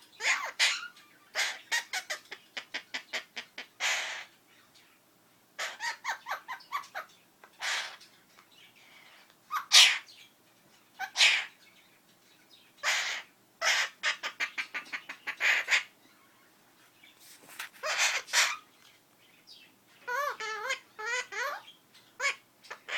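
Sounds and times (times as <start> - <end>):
parakeet chattering chirps: 0.1 - 5.0, 5.6 - 17.1, 17.8 - 22.9.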